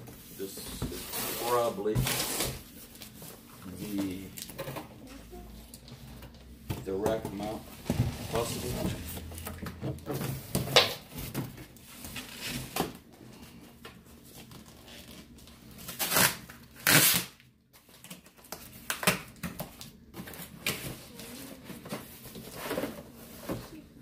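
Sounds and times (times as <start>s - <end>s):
cardboard and paper rustling: 0.0s - 16.0s, 17.7s - 24.0s.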